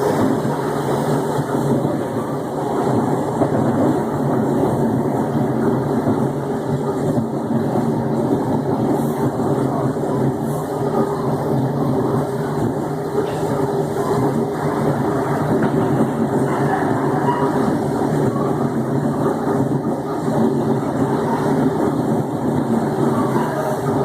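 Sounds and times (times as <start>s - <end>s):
electric train growling drone: 0.0s - 24.0s
rail noise: 0.0s - 24.0s.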